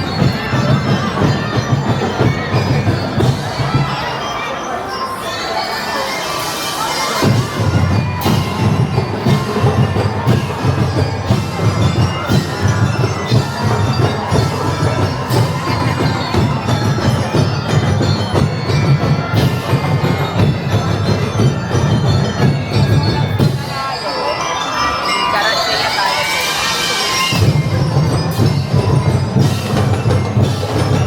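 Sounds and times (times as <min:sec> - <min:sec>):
bell-like chimes: 0:00.0 - 0:31.0.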